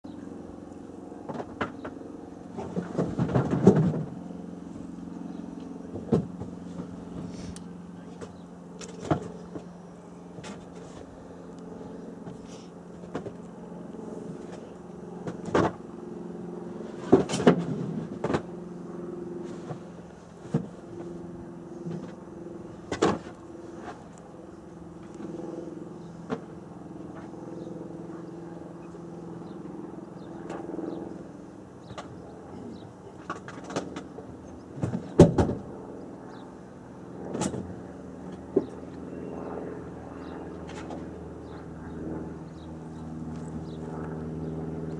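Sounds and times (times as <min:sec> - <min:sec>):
steady mechanical hum: 0:00.0 - 0:44.9.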